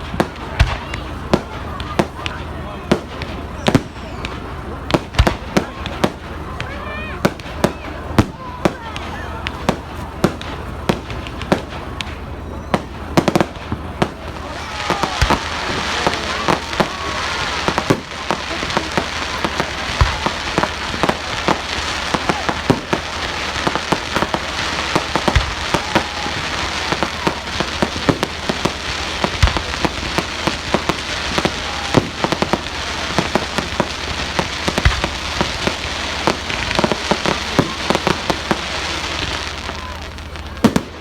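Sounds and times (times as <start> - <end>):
fireworks crackling and popping: 0.0 - 41.0.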